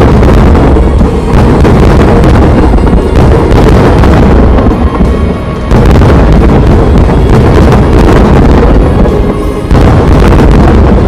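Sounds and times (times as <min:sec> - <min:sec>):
fireworks booming and crackling: 0:00.0 - 0:11.0
music playing: 0:00.0 - 0:11.0.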